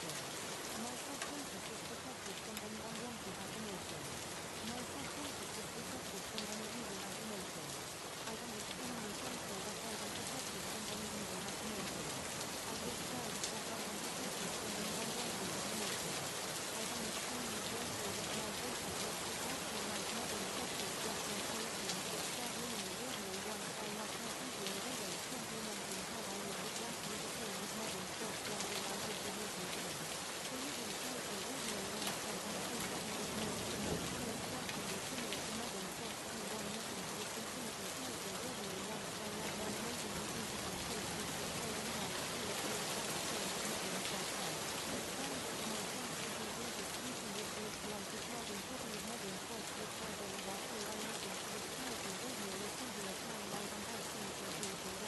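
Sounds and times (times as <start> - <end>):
faint voice: 0.0 - 55.0
steady rain hiss: 0.0 - 55.0.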